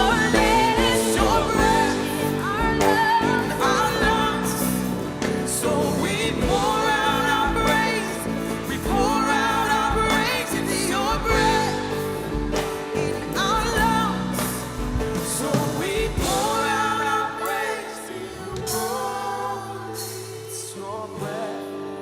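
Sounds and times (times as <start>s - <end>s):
live worship band: 0.0s - 22.0s
person singing: 0.0s - 22.0s.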